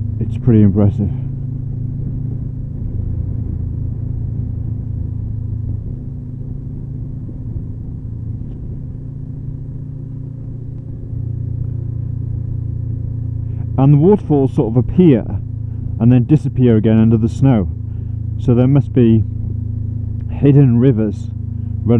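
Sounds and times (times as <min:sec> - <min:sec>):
motorcycle engine drone: 0:00.0 - 0:21.9.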